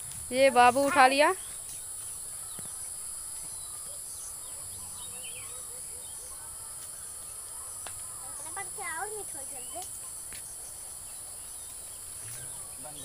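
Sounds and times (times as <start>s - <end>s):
insects droning: 0.0s - 13.0s
faint bird chirps: 0.6s - 13.0s.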